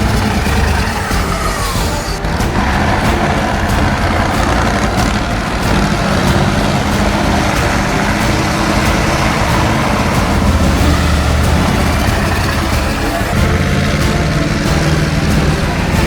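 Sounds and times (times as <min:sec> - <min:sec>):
truck engine running under load: 0:00.0 - 0:16.0.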